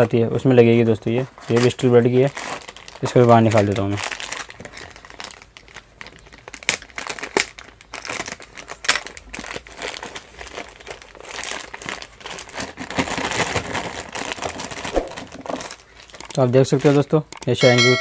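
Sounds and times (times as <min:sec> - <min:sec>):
plastic bag crinkling: 0:01.4 - 0:17.3.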